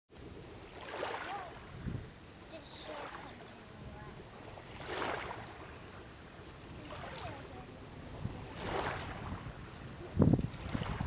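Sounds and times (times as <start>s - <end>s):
small waves lapping on shore: 0.2s - 11.0s.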